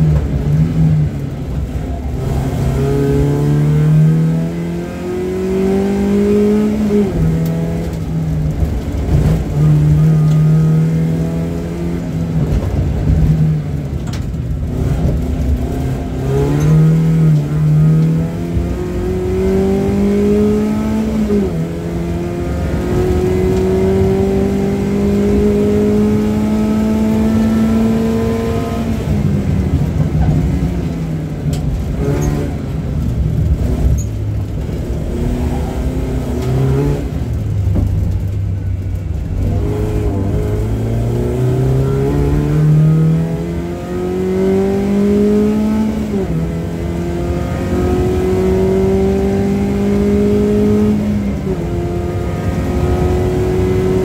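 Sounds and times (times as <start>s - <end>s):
race car engine accelerating: 0.0s - 13.7s, 14.6s - 32.7s, 33.4s - 54.0s.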